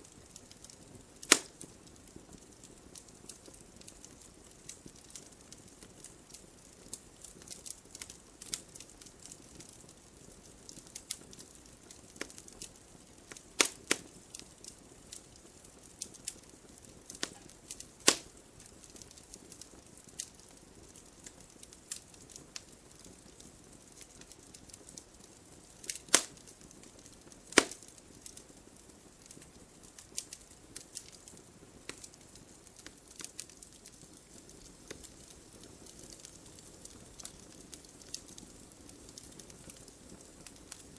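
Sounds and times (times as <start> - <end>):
faint steady hiss: 0.0 - 40.9
wood fire crackling: 0.0 - 40.9.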